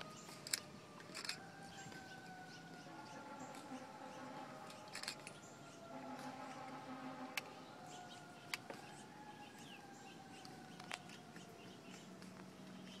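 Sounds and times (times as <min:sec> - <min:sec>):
birds chirping faintly: 0:00.0 - 0:13.0
low steady drone: 0:00.0 - 0:13.0.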